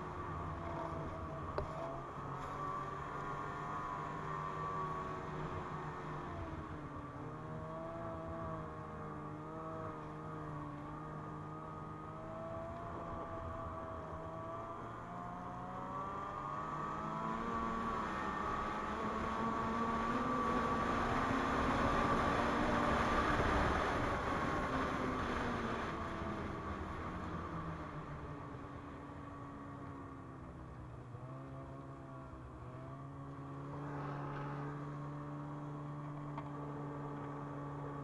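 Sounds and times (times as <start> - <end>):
snowmobile engine running: 0.0 - 38.0.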